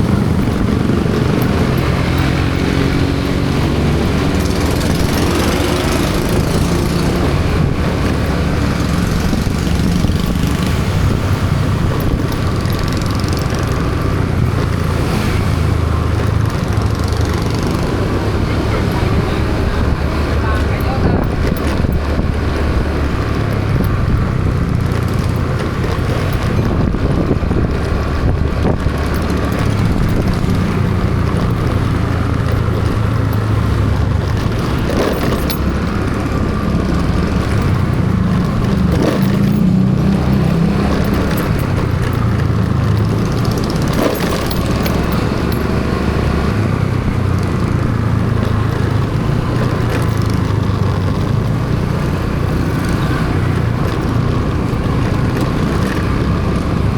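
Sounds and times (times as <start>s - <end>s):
road noise: 0.0s - 56.9s
vehicle engine running: 0.0s - 56.9s.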